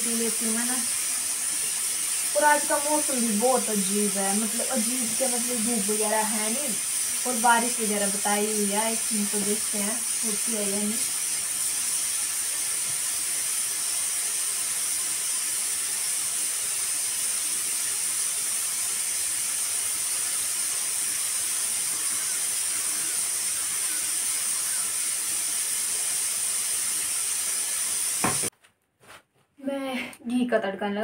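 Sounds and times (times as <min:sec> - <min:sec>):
pressure cooker hissing steam: 0:00.0 - 0:28.5.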